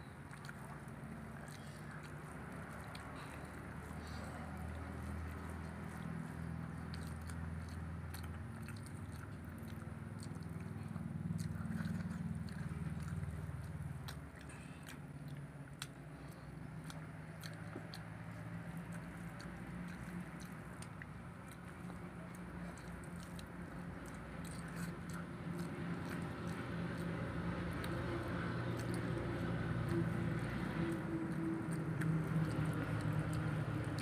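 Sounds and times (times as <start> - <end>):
chewing and mouth sounds: 0.0 - 34.0
steady low hum: 0.0 - 34.0.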